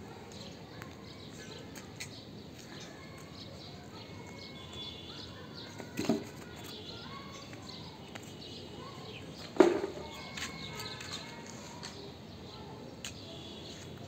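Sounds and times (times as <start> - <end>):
birds chirping: 0.3 - 13.9.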